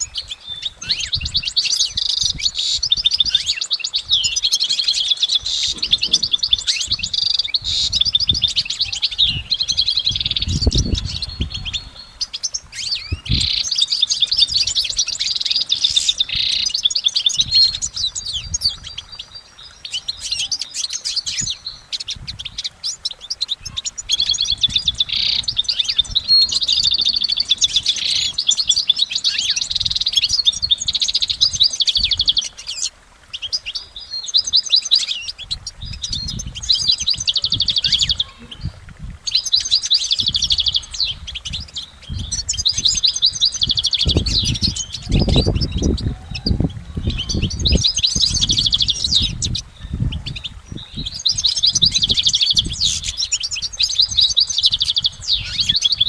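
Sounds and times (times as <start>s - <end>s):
bird singing trills: 0.0s - 56.0s.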